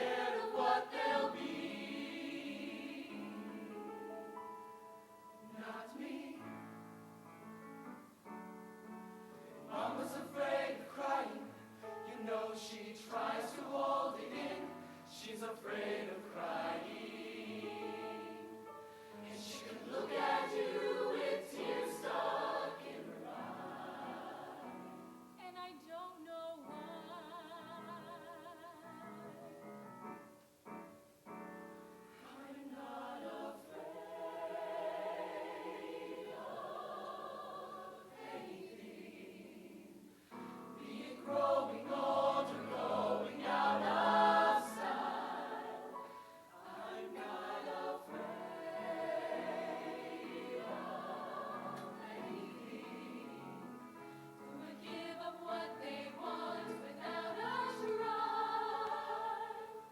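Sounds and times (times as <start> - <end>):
choir singing: 0.0 - 4.4, 5.4 - 7.0, 9.4 - 25.6, 26.6 - 29.4, 32.1 - 59.9.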